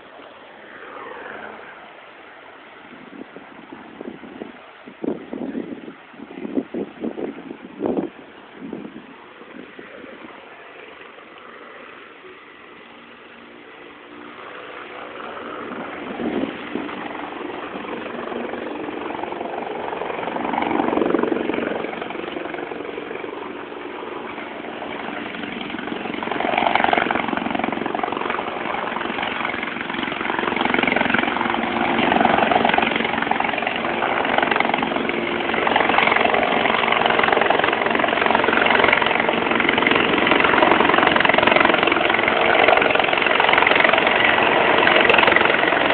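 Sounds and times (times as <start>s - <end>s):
helicopter rotor and engine: 0.0s - 11.2s, 12.7s - 45.9s.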